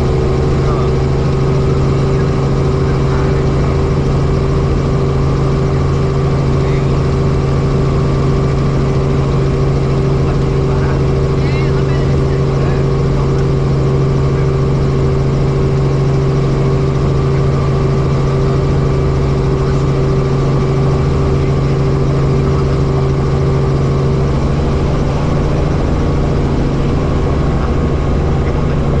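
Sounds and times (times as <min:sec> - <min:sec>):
helicopter engine and rotor drone: 0:00.0 - 0:29.0.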